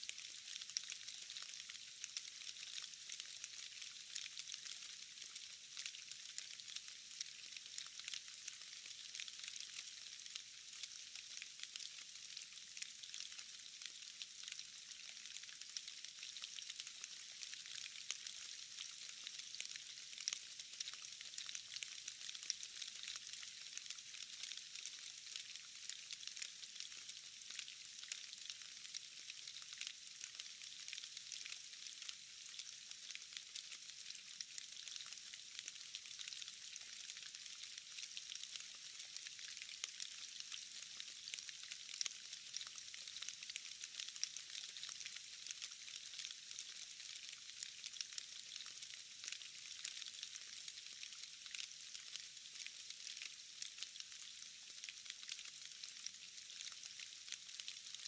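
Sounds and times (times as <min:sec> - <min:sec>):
rain falling into puddle: 0:00.0 - 0:58.0.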